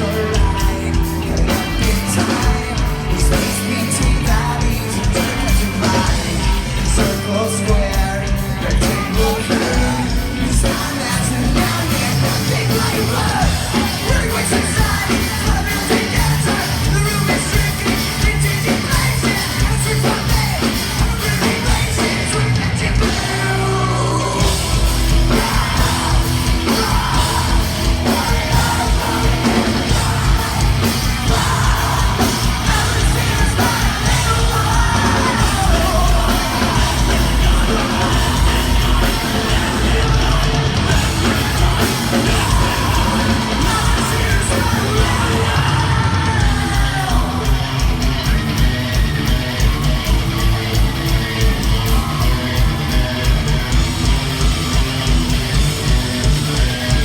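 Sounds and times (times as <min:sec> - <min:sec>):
rock band playing live: 0:00.0 - 0:57.0
yelled and sung vocals: 0:00.0 - 0:57.0.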